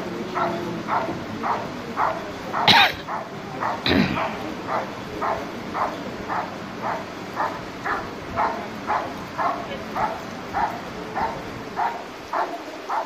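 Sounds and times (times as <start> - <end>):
dog barking: 0.3 - 13.0.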